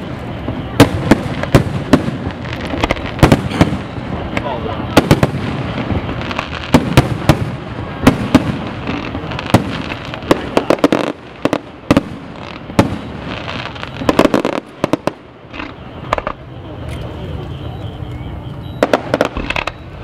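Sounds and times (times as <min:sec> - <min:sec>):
continuous noisy roll: 0:00.0 - 0:20.0
fireworks bangs: 0:00.0 - 0:20.0.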